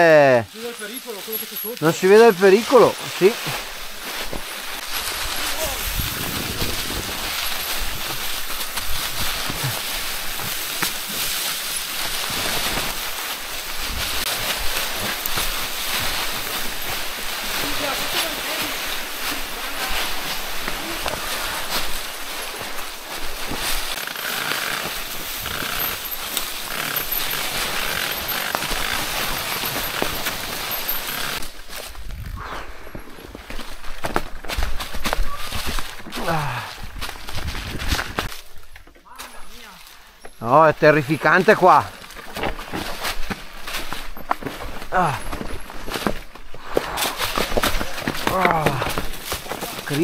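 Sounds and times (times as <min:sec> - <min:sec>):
bike tyres rushing over stones: 0:00.0 - 0:50.0
bike knocking and rattling: 0:03.6 - 0:32.2, 0:33.4 - 0:50.0.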